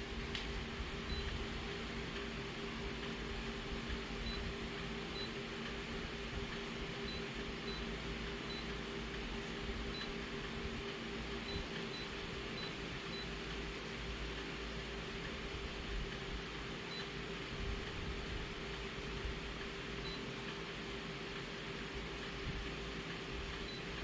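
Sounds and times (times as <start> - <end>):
mechanical hum with whirr: 0.0 - 24.0.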